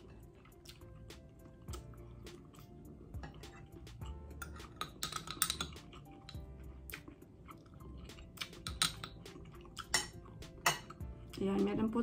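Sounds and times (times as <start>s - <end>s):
crunchy chewing: 0.0s - 11.4s
wet chewing clicks: 0.4s - 2.7s, 3.3s - 11.4s.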